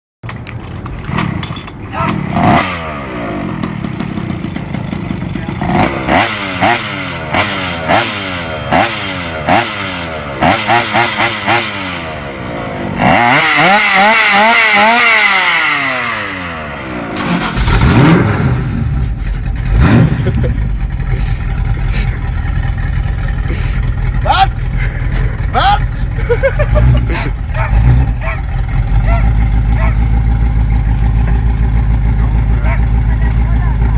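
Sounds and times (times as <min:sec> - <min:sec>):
deep car engine revving: 0:01.0 - 0:03.7, 0:05.4 - 0:33.9
small two-stroke engine revving: 0:01.0 - 0:33.9.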